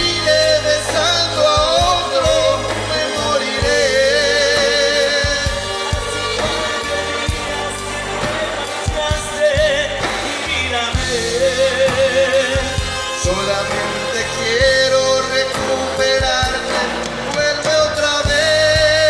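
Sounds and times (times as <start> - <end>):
live mexican band music: 0.0 - 19.0.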